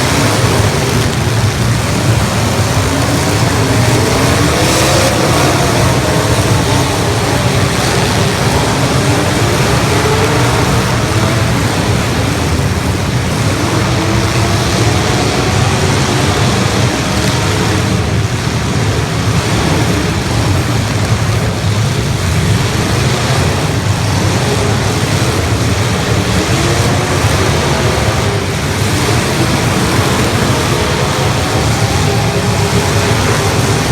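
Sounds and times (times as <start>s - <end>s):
many car engines revving: 0.0s - 33.9s.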